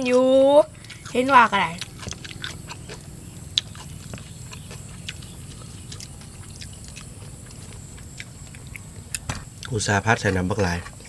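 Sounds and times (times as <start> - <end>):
chewing food: 0.0 - 11.0.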